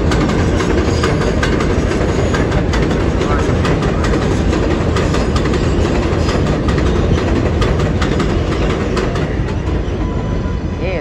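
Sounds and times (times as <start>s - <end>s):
wheels clacking over rail joints: 0.0s - 10.4s
train wheels rumbling on rail: 0.0s - 11.0s.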